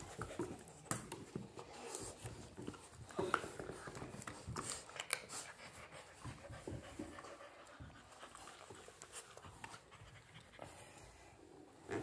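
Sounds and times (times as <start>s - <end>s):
puppy panting faintly: 0.0s - 11.5s.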